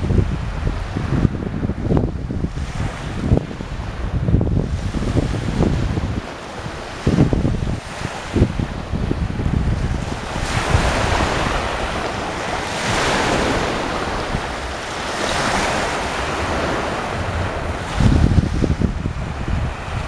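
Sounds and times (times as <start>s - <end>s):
sea waves breaking: 0.0s - 20.0s
wind buffeting microphone: 0.0s - 20.0s.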